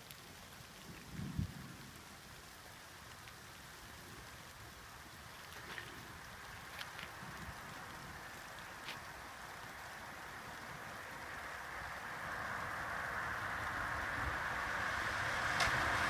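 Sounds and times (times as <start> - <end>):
car tyres hissing on wet road: 0.0 - 16.0
steady rain: 0.0 - 16.0.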